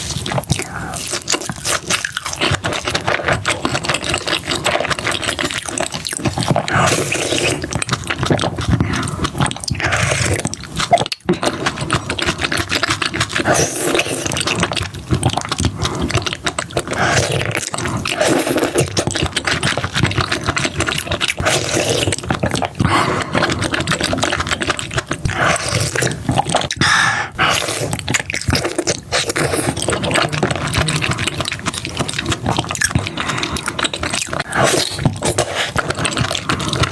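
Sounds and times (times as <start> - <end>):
wet chewing and smacking: 0.0 - 36.9.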